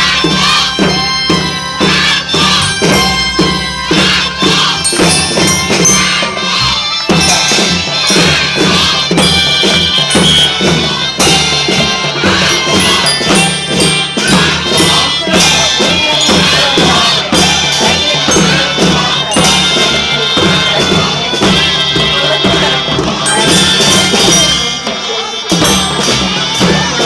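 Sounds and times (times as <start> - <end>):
children's marching band playing: 0.0 - 27.0
steady percussion beat: 0.0 - 27.0.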